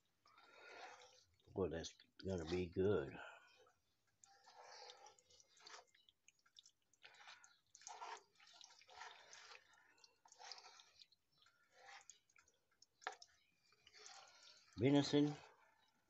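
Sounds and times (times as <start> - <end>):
spoon stirring wet food: 0.0 - 16.0.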